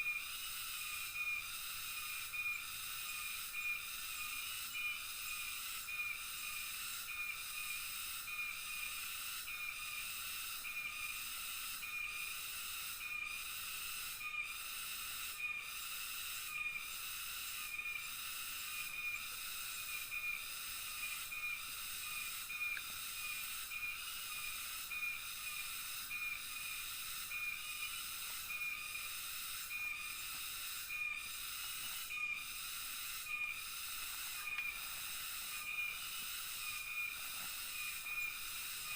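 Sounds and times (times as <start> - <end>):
insects high-pitched hiss: 0.0 - 38.9
short insect chirp: 0.0 - 38.9.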